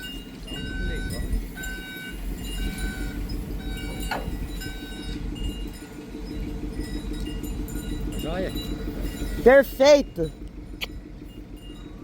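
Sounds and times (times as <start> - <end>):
small metal bells chiming: 0.0 - 10.4
steady low rumble: 0.0 - 12.0.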